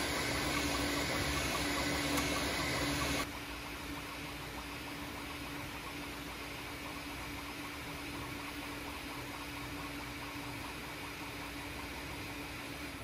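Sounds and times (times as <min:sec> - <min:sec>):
cooling fans running: 0:00.0 - 0:13.0.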